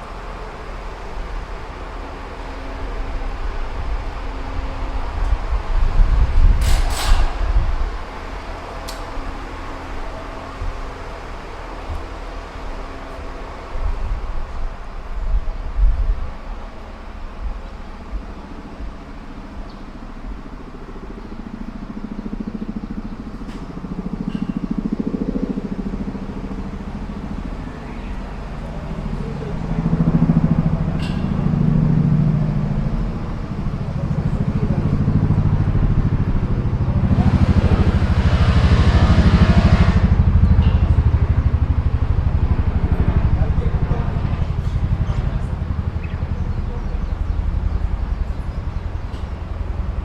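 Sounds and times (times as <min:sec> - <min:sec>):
engine running: 0:00.0 - 0:50.0.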